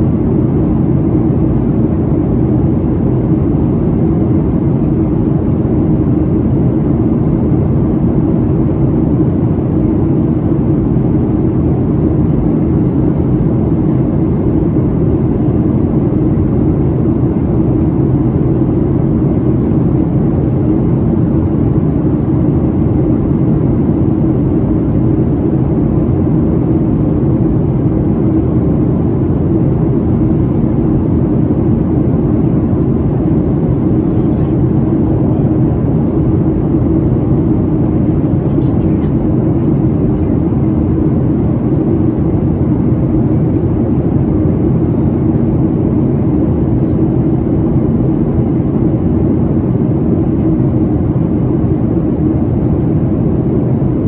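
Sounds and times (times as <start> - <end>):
airflow rushing over fuselage: 0.0 - 54.0
jet engines droning: 0.0 - 54.0.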